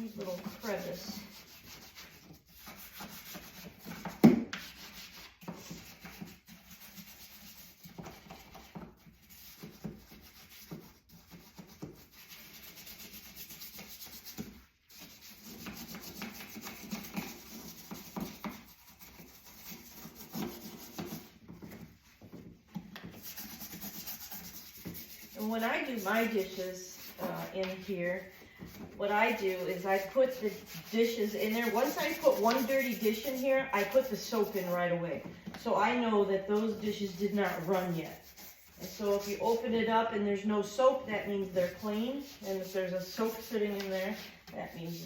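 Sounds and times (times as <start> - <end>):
scrubbing rubbing strokes: 0.0 - 45.0.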